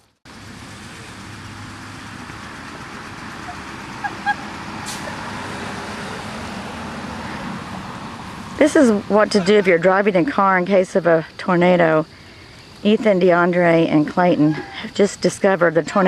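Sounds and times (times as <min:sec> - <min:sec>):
car running: 0:00.0 - 0:16.0.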